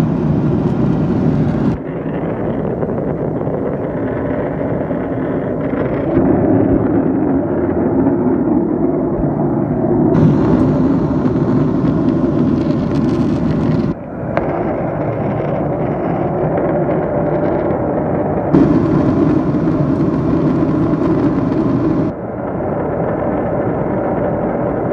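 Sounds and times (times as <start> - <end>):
airliner cabin engine rush: 0.0 - 24.9.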